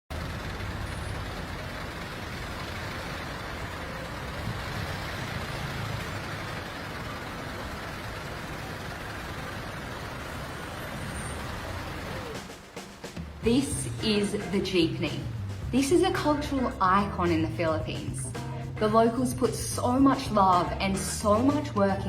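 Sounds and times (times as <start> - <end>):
heavy vehicle engines running: 0.0 - 22.0
road traffic noise: 0.0 - 22.0.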